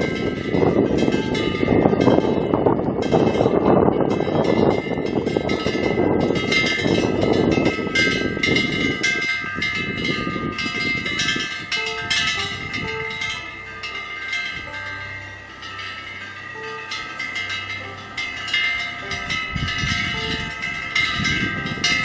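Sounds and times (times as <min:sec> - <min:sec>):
wind bell ringing: 0:00.0 - 0:22.0
wind rushing: 0:00.0 - 0:22.0.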